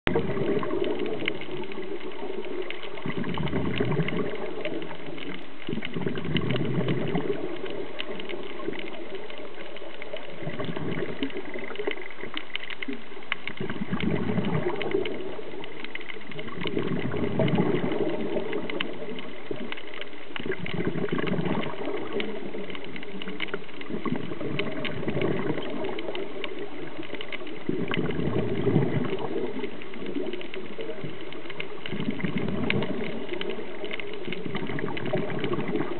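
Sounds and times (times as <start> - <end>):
crackle of small clicks: 0.1 - 35.9
exhaled bubbles rushing underwater: 0.1 - 35.9.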